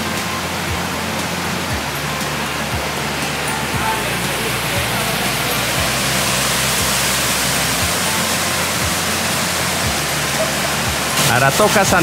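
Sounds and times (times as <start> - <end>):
background music with soft beat: 0.0 - 12.0
waterfall rushing over rock: 0.0 - 12.0.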